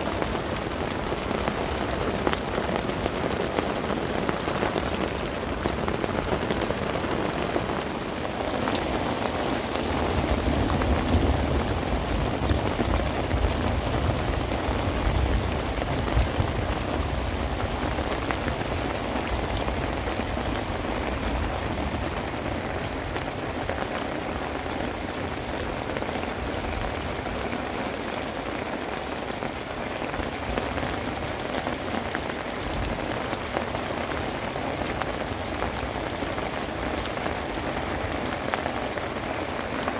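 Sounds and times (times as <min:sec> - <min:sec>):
rain falling on stony ground: 0:00.0 - 0:39.9.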